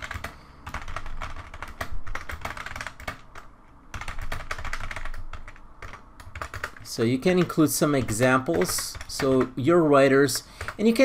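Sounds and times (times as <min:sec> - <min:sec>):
computer keyboard typing: 0:00.0 - 0:11.0.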